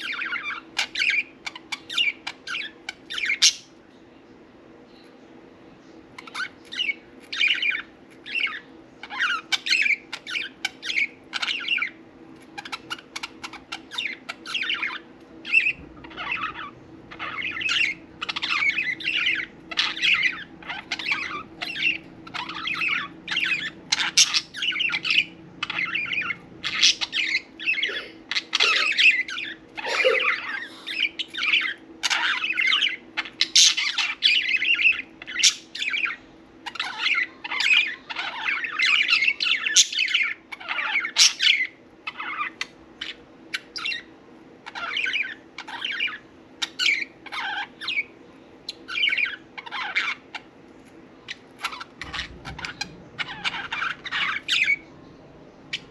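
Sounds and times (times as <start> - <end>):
budgerigars chirping and chattering: 0.0 - 3.8, 6.0 - 55.0, 55.6 - 55.9.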